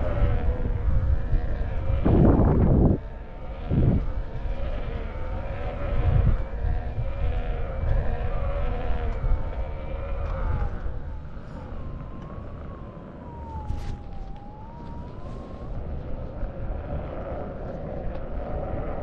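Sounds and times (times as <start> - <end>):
wind and tyre rumble: 0.0 - 19.0.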